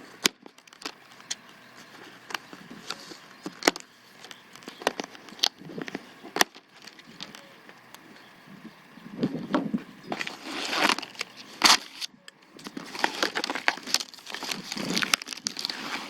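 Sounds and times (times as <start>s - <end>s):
packaging clicks and crackles: 0.2s - 8.0s, 10.1s - 16.0s.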